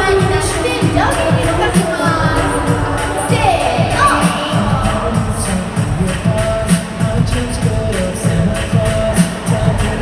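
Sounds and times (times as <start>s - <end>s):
upbeat pop music with singing: 0.0s - 10.0s.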